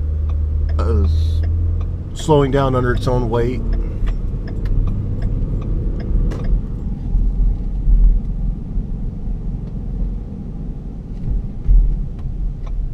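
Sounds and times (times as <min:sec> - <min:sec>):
car road rumble inside cabin: 0:00.0 - 0:12.9.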